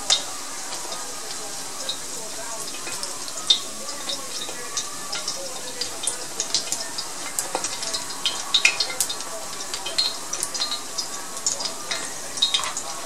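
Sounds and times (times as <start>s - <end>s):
fish cakes sizzling in oil: 0.0s - 13.0s
sharp crackles and pops: 0.0s - 13.0s.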